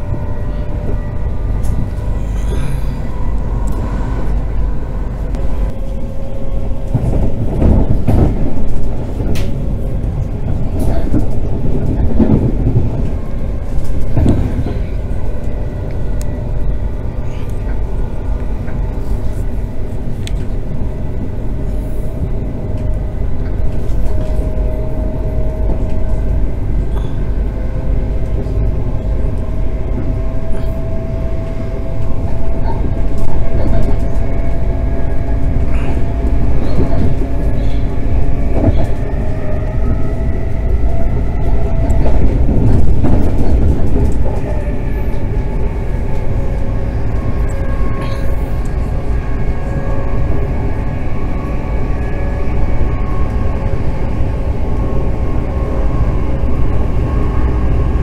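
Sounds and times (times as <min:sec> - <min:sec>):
train rumble: 0:00.0 - 0:58.0.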